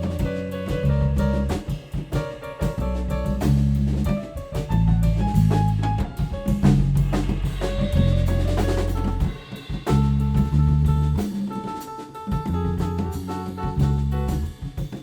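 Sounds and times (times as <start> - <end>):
bass notes: 0.0 - 11.7, 12.3 - 14.8
drum hits: 0.0 - 15.0
live band playing: 0.0 - 15.0.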